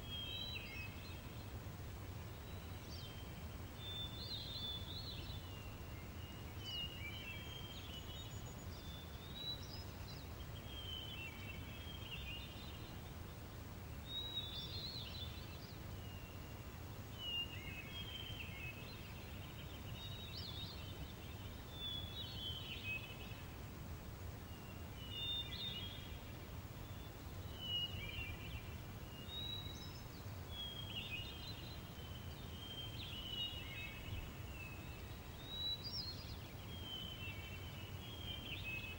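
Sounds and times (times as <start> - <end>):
low breeze: 0.0 - 38.9
songbirds chirping: 0.0 - 38.9.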